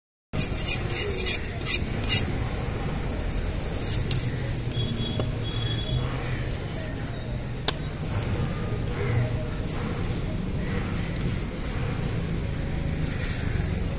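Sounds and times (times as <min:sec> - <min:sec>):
market background noise: 0:00.4 - 0:13.9.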